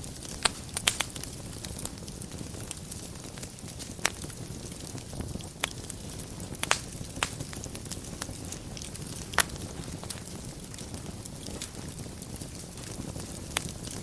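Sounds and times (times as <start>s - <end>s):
fire crackling and popping: 0.0s - 14.0s
flames rumbling: 0.0s - 14.0s.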